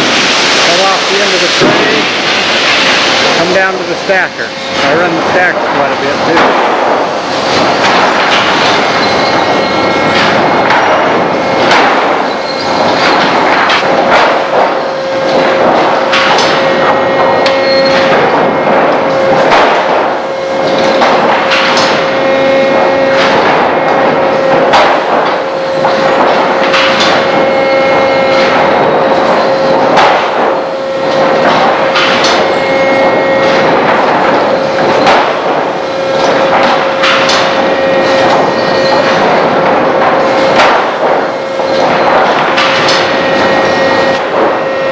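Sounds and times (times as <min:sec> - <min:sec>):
heavy knocks and clatter: 0:00.0 - 0:44.9
sawmill machinery running: 0:00.0 - 0:44.9.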